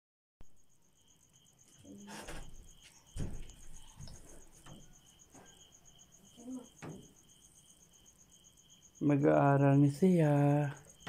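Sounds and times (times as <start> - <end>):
crickets chirping: 0.4 - 11.0.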